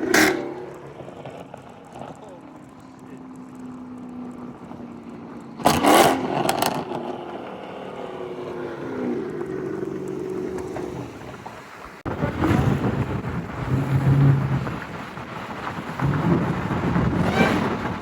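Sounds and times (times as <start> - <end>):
sharp exhaust pops: 0.0 - 4.8, 5.6 - 7.3, 9.3 - 18.0.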